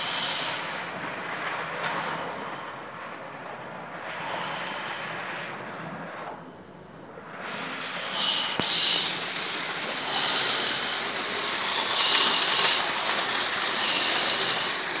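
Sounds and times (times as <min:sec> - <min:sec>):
model trains rattling and whirring: 0:00.0 - 0:15.0.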